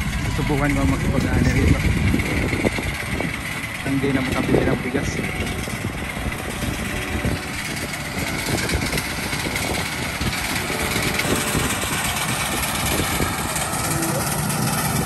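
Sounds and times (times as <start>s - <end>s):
small engine running: 0.0s - 15.0s
wind on microphone: 0.0s - 15.0s.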